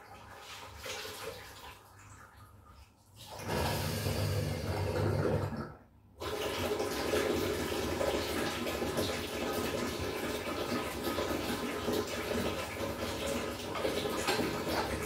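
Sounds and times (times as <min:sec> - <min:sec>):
water rushing through pipes: 0:00.0 - 0:15.0.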